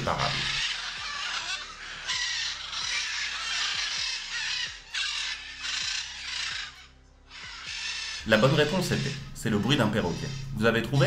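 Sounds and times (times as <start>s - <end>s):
parrot squawking: 0.0s - 11.0s
quiet background music: 0.0s - 11.0s.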